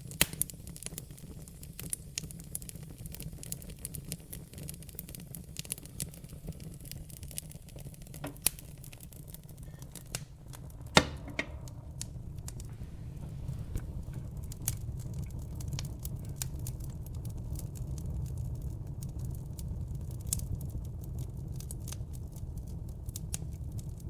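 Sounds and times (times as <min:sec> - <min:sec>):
loud pop of fire: 0:00.0 - 0:20.6
low rumble of flame: 0:00.0 - 0:24.0
wood fire crackling: 0:00.0 - 0:24.0.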